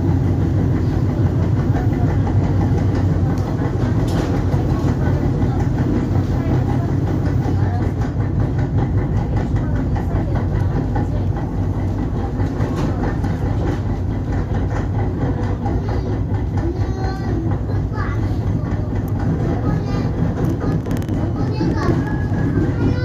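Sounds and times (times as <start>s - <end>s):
rail clatter: 0.0s - 23.0s
train low hum: 0.0s - 23.0s.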